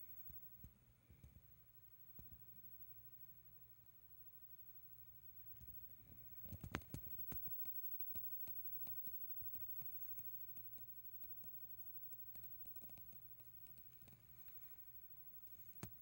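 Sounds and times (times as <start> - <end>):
faint clicks and taps: 0.0 - 16.0.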